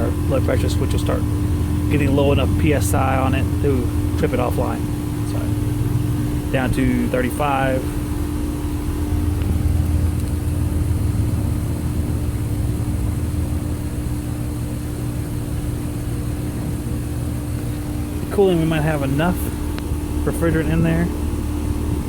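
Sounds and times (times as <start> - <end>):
heat pump humming: 0.0 - 22.0.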